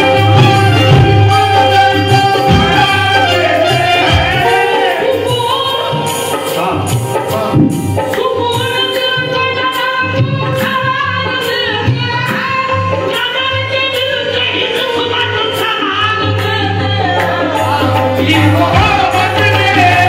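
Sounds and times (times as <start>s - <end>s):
hand percussion beat: 0.0s - 20.0s
harmonium held notes: 0.0s - 20.0s
lead voice singing into microphone: 0.0s - 20.0s.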